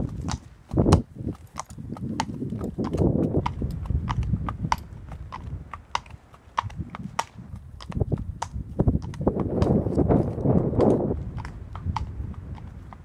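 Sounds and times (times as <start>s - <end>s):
horse hooves clip-clopping on tarmac: 0.0s - 13.0s.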